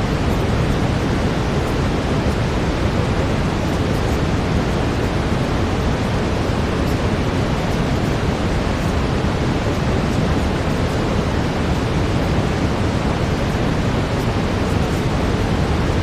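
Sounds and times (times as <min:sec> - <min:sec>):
brown noise hiss: 0:00.0 - 0:16.0.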